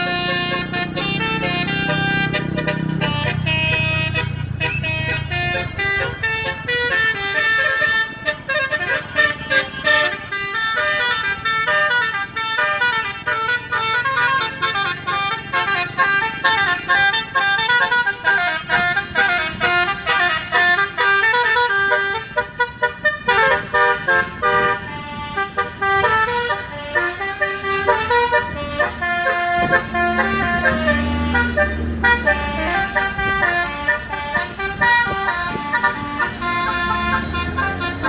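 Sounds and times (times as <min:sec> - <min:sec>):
bus air horn playing a tune: 0:00.0 - 0:38.0.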